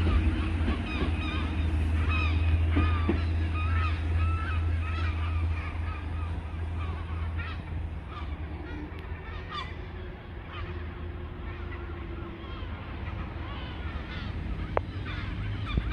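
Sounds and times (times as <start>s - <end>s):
birds honking: 0.0s - 15.9s.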